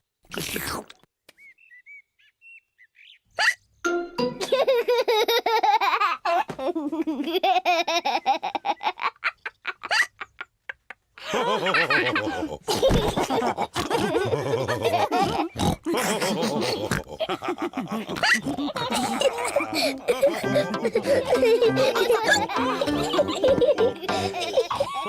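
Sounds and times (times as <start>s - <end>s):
cartoon pigs laughing and snorting: 4.4s - 25.0s.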